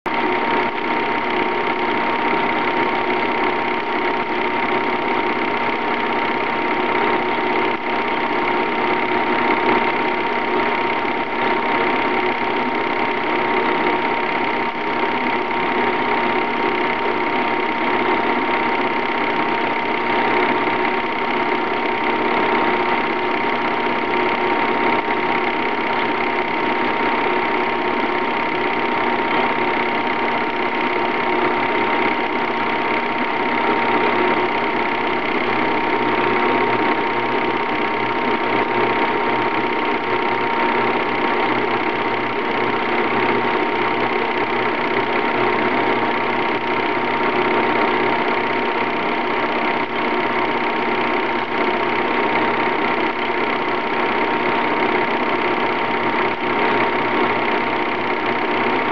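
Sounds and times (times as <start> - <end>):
film projector whirring: 0.1 - 58.9.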